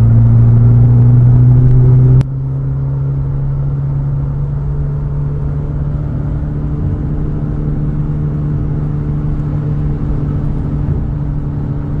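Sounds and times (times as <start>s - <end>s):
car engine humming steadily: 0.0s - 12.0s.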